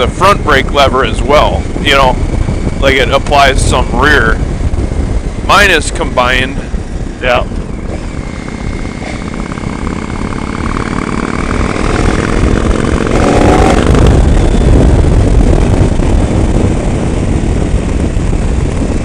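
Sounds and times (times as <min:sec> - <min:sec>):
motorcycle engine accelerating: 0:00.0 - 0:19.0
wind on microphone: 0:00.0 - 0:19.0.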